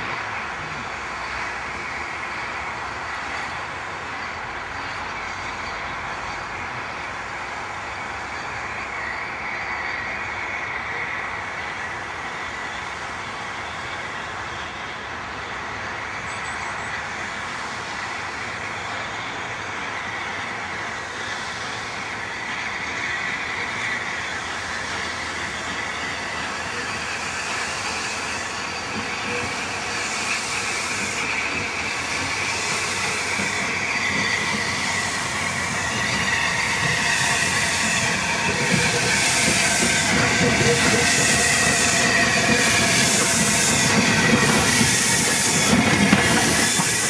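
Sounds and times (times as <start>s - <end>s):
distant steam locomotive running: 0.0s - 47.0s.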